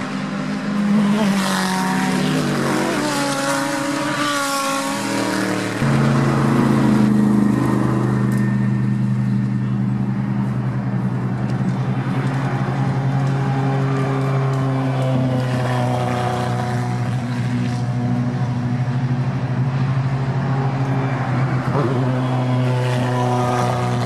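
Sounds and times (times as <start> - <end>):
race car engines accelerating: 0.0 - 24.0
race car passing close: 0.0 - 24.0.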